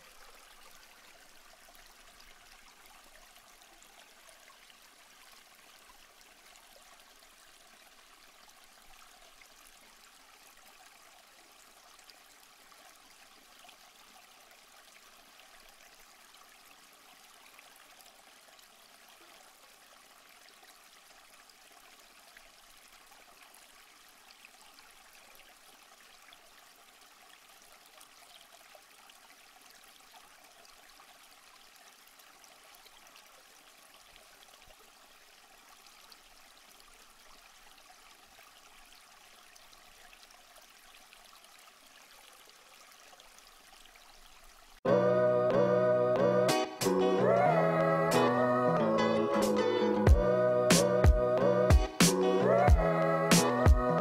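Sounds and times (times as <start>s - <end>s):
faint steady hiss: 0.0s - 44.8s.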